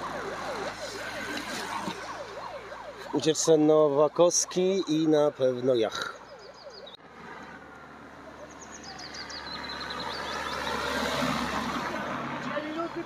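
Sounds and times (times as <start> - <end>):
vehicle and road noise: 0.0 - 13.0.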